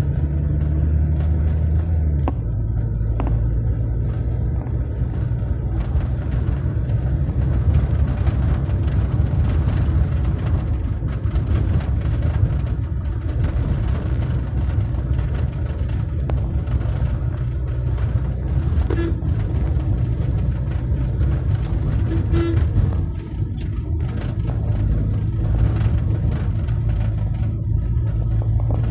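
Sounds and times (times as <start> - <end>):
motor vehicles rumbling: 0.0 - 28.9.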